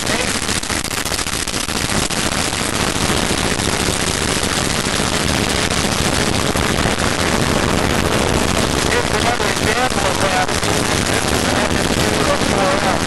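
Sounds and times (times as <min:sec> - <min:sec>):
propeller aircraft engine running: 0:02.1 - 0:13.0.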